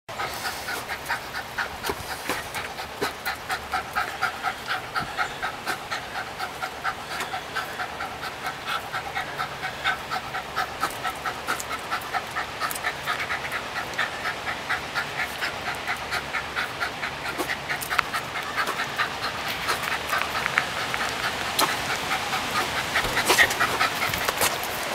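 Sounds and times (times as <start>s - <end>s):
dog panting: 0.1s - 24.9s.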